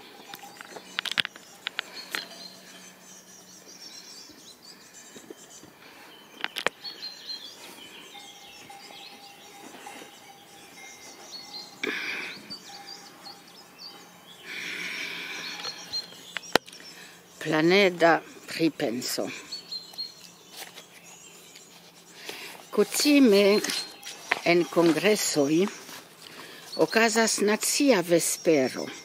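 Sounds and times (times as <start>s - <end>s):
birds chirping and singing: 0.0s - 29.0s.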